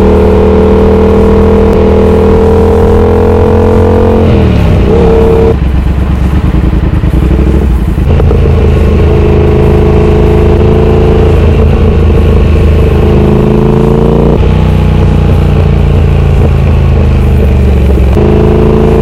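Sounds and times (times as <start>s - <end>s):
loud motorcycle exhaust: 0.0s - 19.0s.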